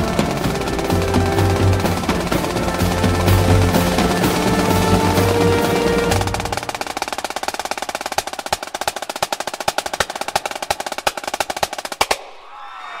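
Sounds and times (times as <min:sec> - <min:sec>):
snare drums playing: 0:00.0 - 0:12.2.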